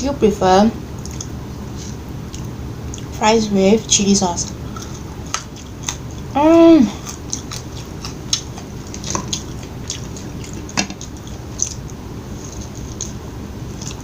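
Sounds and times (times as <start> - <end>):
person chewing food: 0.9 - 3.2, 4.4 - 14.0.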